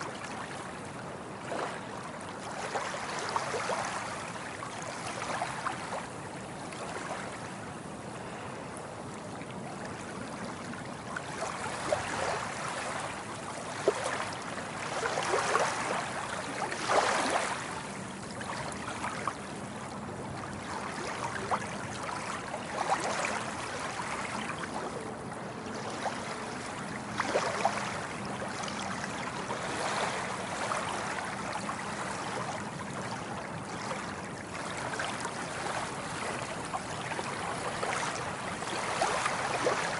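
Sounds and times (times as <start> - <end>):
sea waves lapping on shore: 0.0 - 39.9
waves breaking: 0.0 - 39.9.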